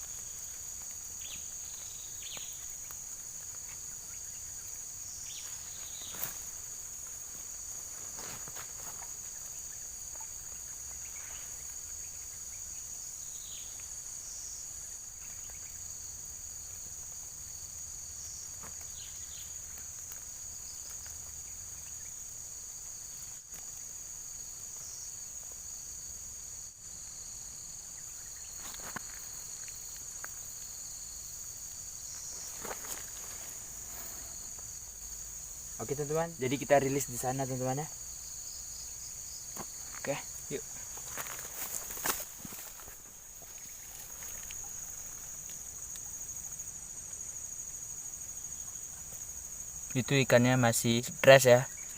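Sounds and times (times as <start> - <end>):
insects chorus: 0.0 - 51.9.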